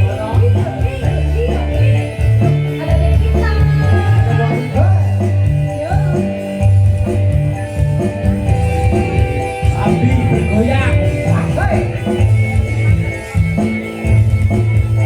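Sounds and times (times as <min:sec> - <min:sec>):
heavy bass line: 0:00.0 - 0:15.0
live band music: 0:00.0 - 0:15.0.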